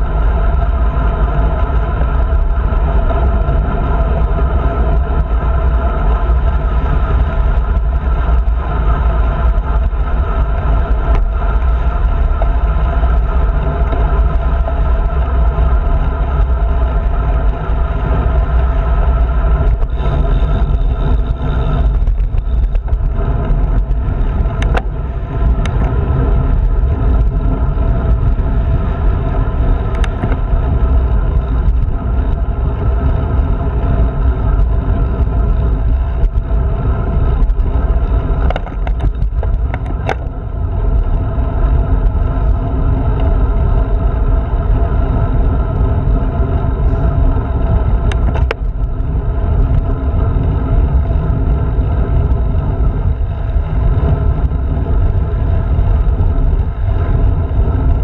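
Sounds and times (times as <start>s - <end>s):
tyre noise on asphalt: 0.0s - 58.0s
wind buffeting microphone: 0.0s - 58.0s.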